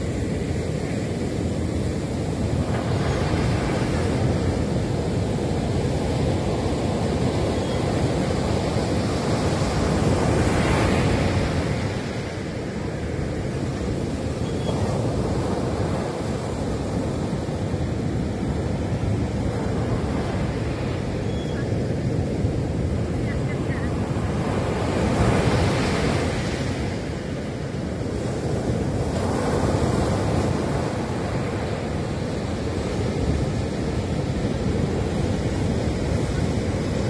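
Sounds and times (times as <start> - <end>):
ocean surf breaking on beach: 0.0 - 37.0.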